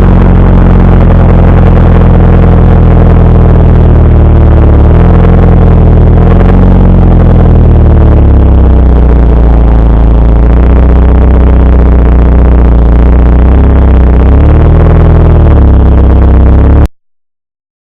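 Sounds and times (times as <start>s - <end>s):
car engine droning: 0.0s - 16.9s.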